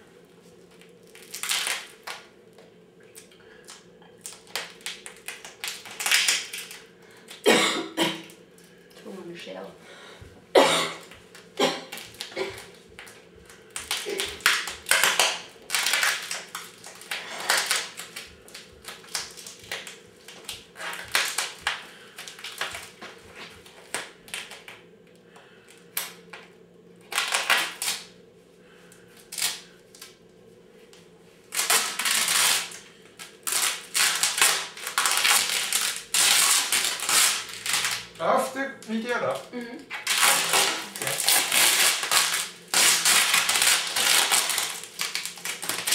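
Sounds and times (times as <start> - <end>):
plastic wrapping crinkling and tearing: 0.4 - 7.5, 11.0 - 24.8, 25.7 - 28.1, 29.1 - 30.2, 31.4 - 45.9.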